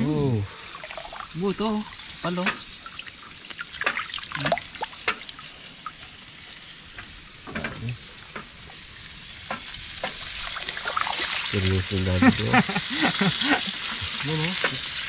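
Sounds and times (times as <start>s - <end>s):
insects chirping in pulsing trill: 0.0s - 15.0s.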